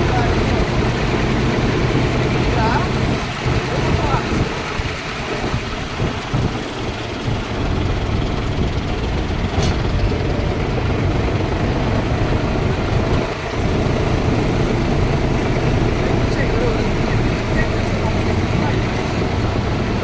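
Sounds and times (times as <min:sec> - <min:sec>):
tractor engines rumbling: 0:00.0 - 0:20.0.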